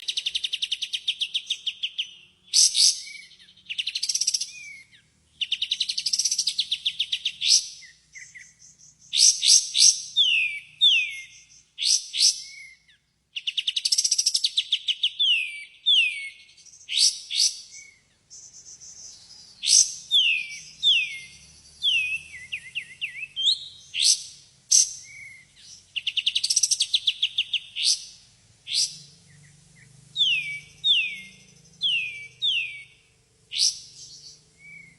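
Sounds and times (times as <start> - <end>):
songbird trilling and whistling: 0.0 - 34.9.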